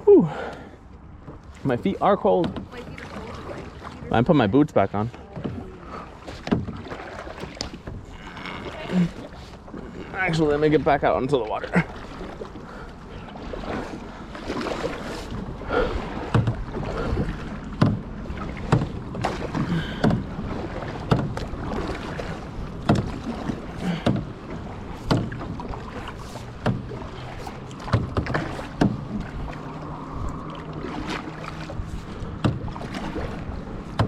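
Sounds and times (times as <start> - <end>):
kayak paddle splashing water: 0.3 - 34.0.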